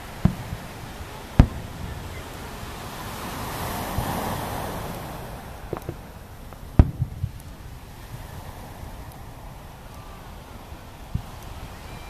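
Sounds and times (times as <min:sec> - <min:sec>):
firework bangs: 0:00.0 - 0:10.4
wave breaking on sand: 0:00.0 - 0:12.0.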